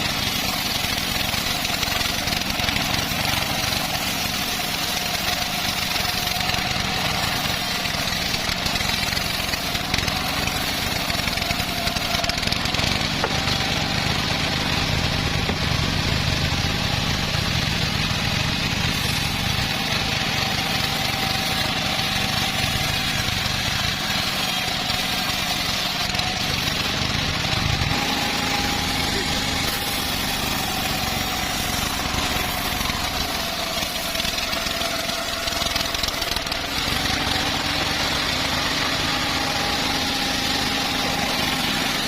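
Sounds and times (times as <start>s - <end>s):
sawmill engine drone: 0.0s - 42.0s.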